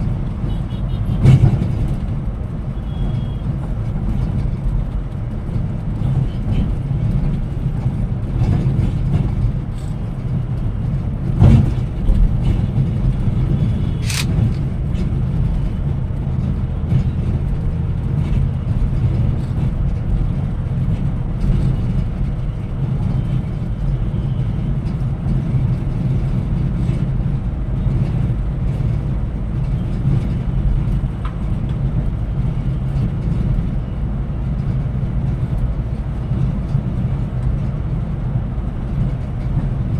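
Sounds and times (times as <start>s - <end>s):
coach engine and road rumble: 0.0s - 39.9s.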